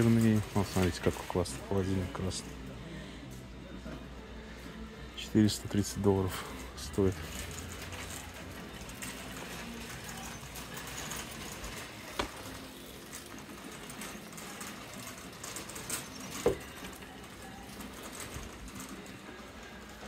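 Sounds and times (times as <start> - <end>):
shopping cart rolling on concrete: 0.0 - 2.7, 3.8 - 20.0.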